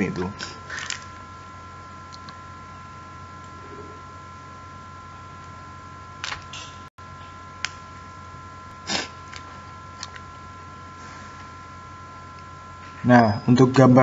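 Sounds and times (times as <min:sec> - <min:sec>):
faint high whine: 0:00.0 - 0:14.0
low electrical hum: 0:00.0 - 0:14.0.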